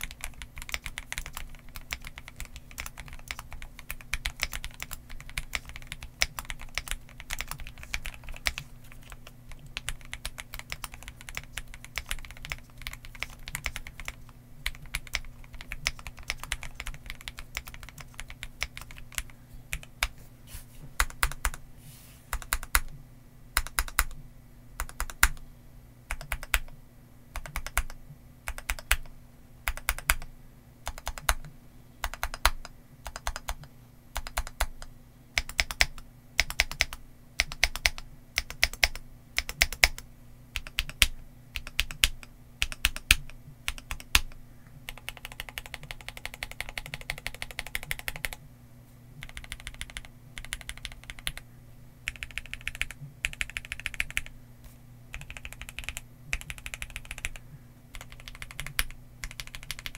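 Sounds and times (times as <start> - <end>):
typing on mechanical keyboard: 0.0 - 20.2, 21.0 - 21.6, 22.3 - 22.9, 23.6 - 24.2, 24.8 - 25.4, 26.1 - 26.7, 27.4 - 29.1, 29.7 - 40.0, 40.6 - 48.4, 49.2 - 51.4, 52.1 - 54.3, 55.1 - 59.9.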